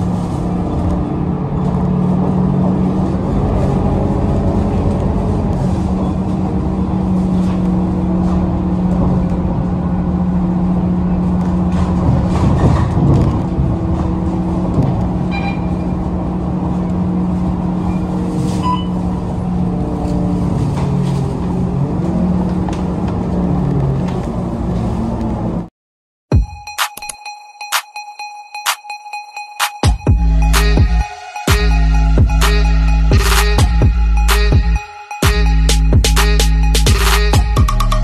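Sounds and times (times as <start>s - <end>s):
bus diesel engine droning: 0.0s - 25.7s, 30.1s - 38.0s.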